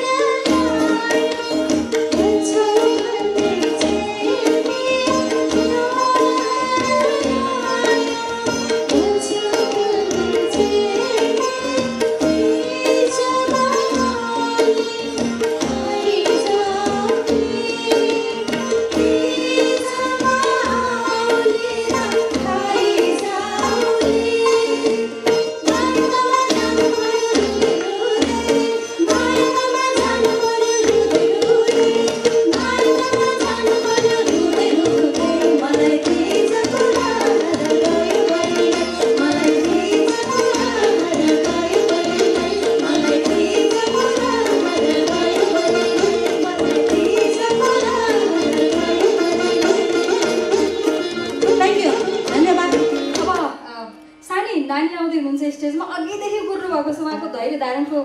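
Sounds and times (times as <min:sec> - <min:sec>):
harmonium: 0:00.0 - 0:54.7
sitar: 0:00.0 - 0:58.0
tabla beat: 0:00.0 - 0:58.0
woman singing: 0:00.0 - 0:58.0.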